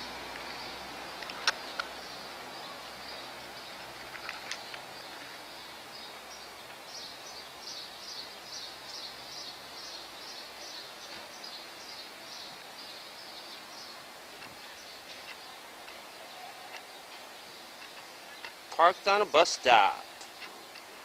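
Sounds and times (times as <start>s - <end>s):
city background noise: 0.0s - 21.0s.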